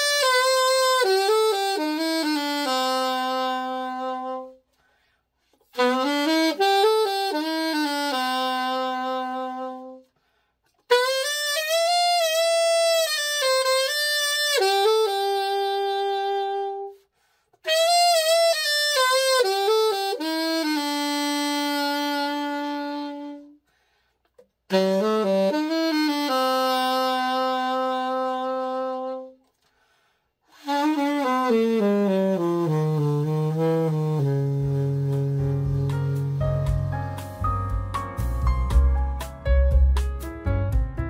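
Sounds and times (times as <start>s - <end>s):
alto saxophone phrases: 0.0s - 4.7s, 5.7s - 10.1s, 10.9s - 23.6s, 24.7s - 29.5s, 30.5s - 37.6s.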